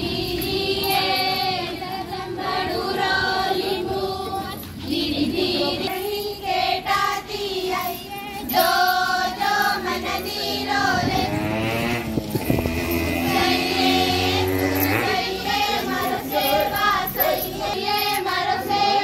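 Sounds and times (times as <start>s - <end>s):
women and girls singing in chorus: 0.0s - 19.0s.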